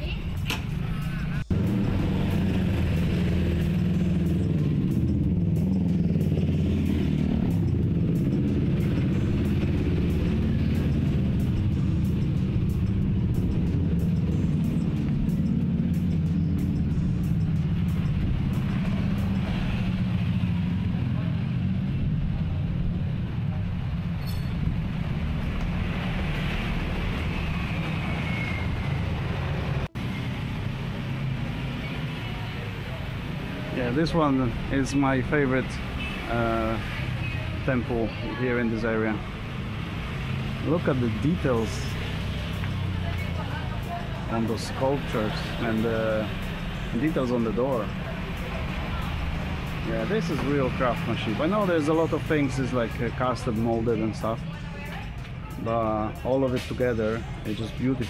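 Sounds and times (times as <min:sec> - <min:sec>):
street traffic rumble: 0:00.0 - 0:58.0
vehicle engine humming: 0:00.0 - 0:58.0.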